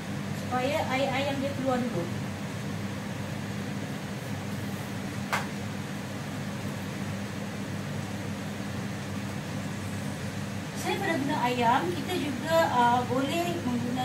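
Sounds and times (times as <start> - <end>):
kitchen fan humming: 0.0 - 14.0.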